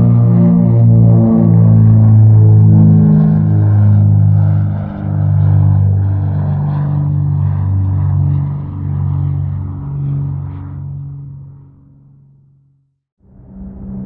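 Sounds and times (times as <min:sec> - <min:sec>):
propeller aircraft engine droning: 0:00.0 - 0:14.0.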